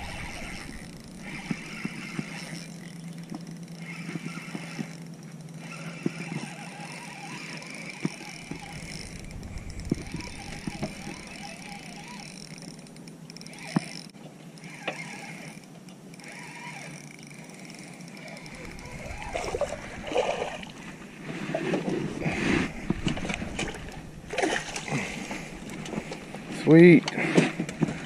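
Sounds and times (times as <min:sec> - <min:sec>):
fishing reel gears whirring: 0:00.0 - 0:28.0.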